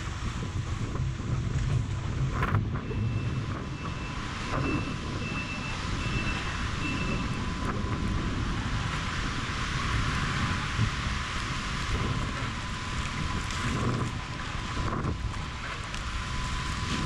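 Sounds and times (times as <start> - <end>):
choppy water: 0.0 - 17.0
wind blowing on microphone: 0.0 - 17.0.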